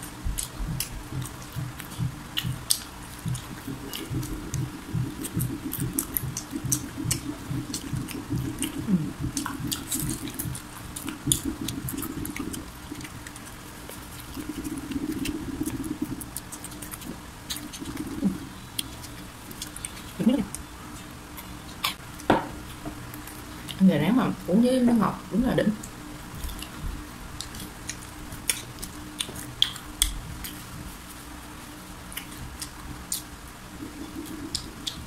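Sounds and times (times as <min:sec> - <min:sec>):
wet mouth sounds: 0:00.0 - 0:20.6, 0:25.8 - 0:30.8, 0:32.1 - 0:35.0
crunchy chewing: 0:00.0 - 0:22.0, 0:26.3 - 0:35.0.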